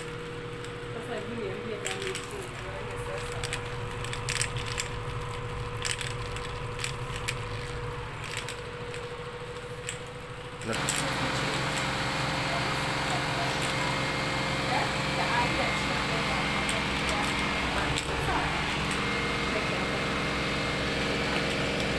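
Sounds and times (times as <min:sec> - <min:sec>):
drain pump humming: 0:00.0 - 0:21.9.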